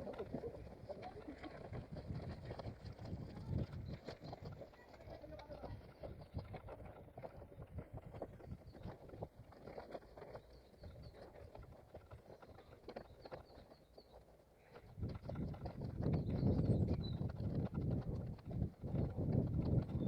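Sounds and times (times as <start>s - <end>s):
running footsteps: 0.0s - 20.0s.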